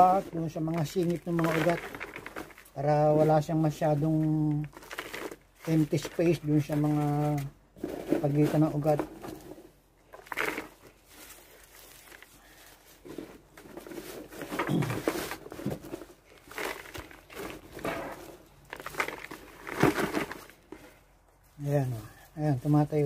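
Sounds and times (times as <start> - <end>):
potting mix rustling and crunching: 0.0 - 23.0.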